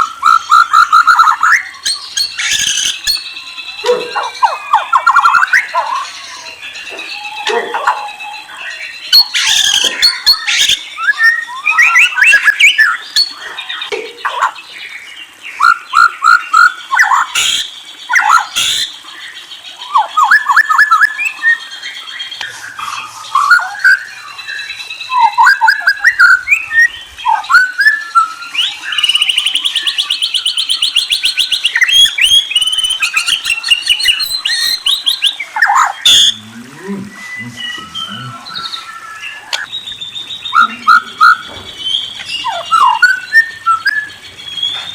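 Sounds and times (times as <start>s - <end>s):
songbird singing whistled notes: 0.0s - 44.9s.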